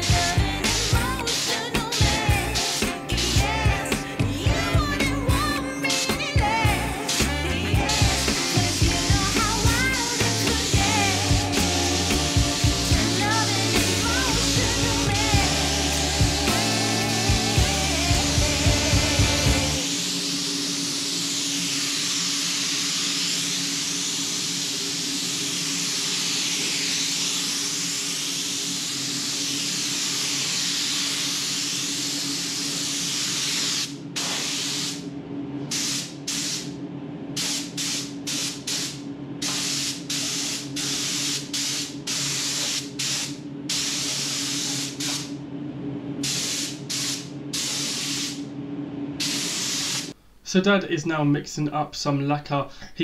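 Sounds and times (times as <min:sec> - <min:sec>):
spray gun hissing: 0:00.0 - 0:05.1, 0:06.0 - 0:35.0, 0:35.7 - 0:36.7, 0:37.4 - 0:45.3, 0:46.2 - 0:48.4, 0:49.2 - 0:50.2
steady low hum: 0:00.0 - 0:53.0.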